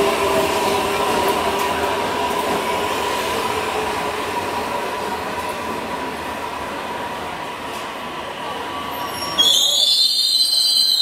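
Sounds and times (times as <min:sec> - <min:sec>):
subway train slowing with whine: 0:00.0 - 0:11.0.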